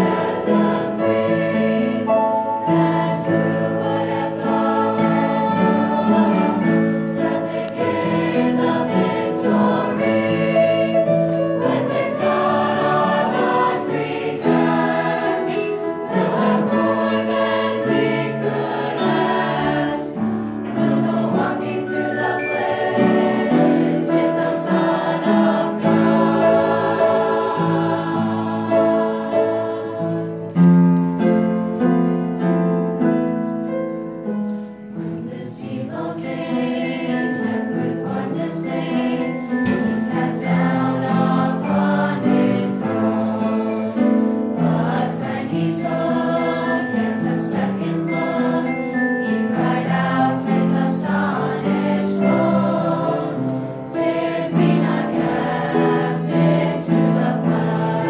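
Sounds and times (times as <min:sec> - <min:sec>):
mixed choir singing: 0:00.0 - 0:31.8, 0:35.0 - 0:58.0.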